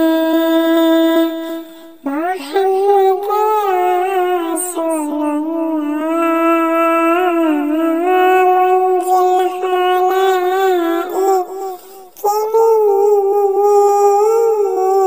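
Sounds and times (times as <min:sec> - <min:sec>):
person singing long held notes: 0:00.0 - 0:15.0.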